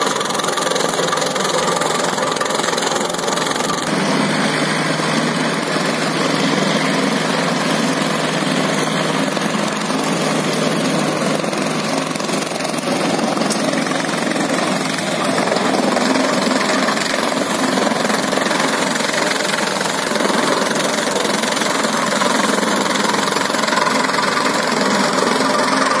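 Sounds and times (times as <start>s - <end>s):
tractor driven shredder chopping: 0.0s - 26.0s.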